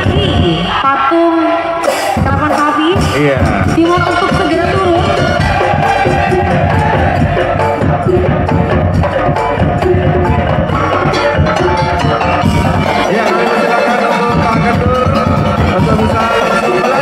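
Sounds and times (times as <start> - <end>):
percussion ensemble playing: 0.0 - 17.0.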